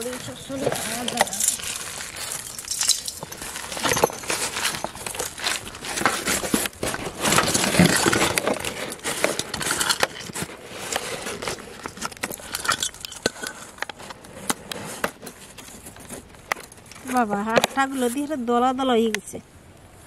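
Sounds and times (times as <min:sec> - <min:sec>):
woven bag rustling: 0:00.0 - 0:18.3.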